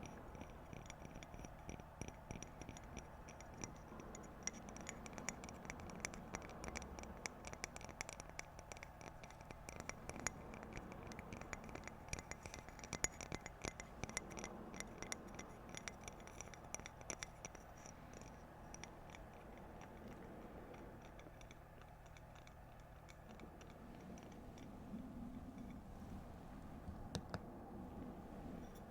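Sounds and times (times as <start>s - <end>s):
fingernails tapping and scratching: 0.0s - 28.9s.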